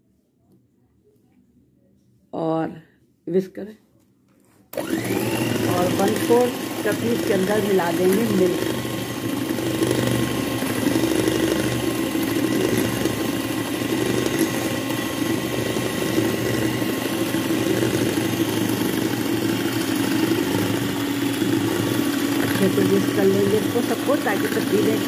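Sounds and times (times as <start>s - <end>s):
electric hand mixer whisking batter: 4.7s - 25.0s.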